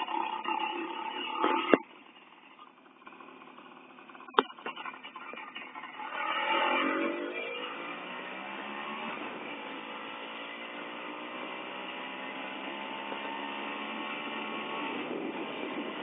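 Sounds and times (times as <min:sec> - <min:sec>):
two-stroke motorcycle engine running: 0:00.0 - 0:16.0.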